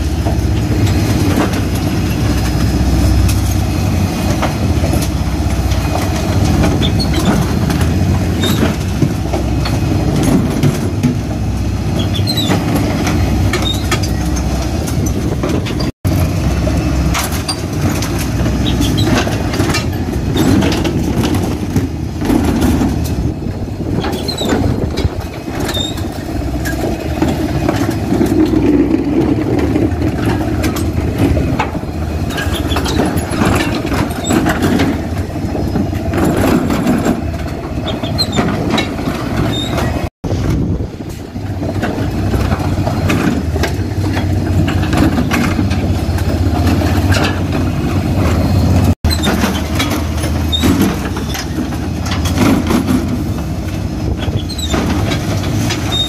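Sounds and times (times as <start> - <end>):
refuse lorry engine running: 0.0 - 56.0
wheelie bins clattering: 0.0 - 56.0.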